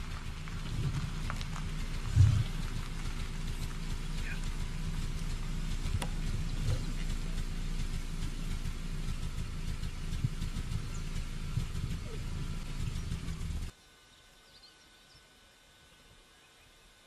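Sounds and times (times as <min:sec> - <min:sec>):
crackling hiss: 0:00.0 - 0:13.7
steady low rumble: 0:00.0 - 0:13.8.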